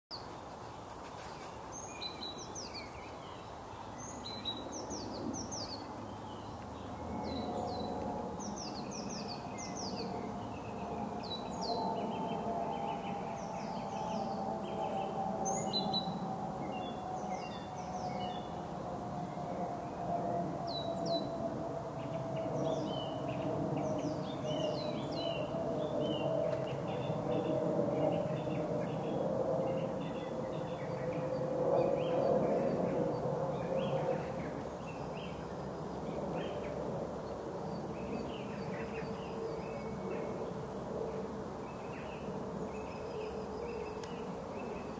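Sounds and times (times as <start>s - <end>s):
woodland birds singing: 0.1s - 44.9s
low distant drone: 1.7s - 44.9s.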